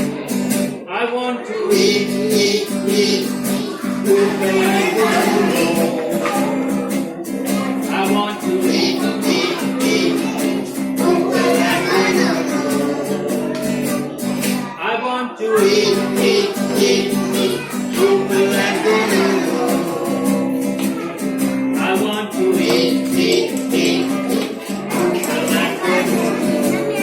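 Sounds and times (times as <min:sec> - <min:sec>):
plucked guitar: 0:00.0 - 0:14.9, 0:15.5 - 0:27.0
person singing: 0:00.9 - 0:27.0.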